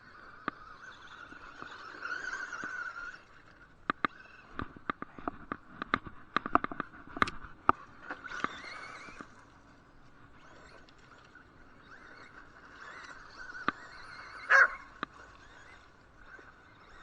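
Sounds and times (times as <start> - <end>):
electric motor whine: 0.0 - 17.0
rc car clicks and knocks: 0.1 - 9.5, 10.4 - 17.0.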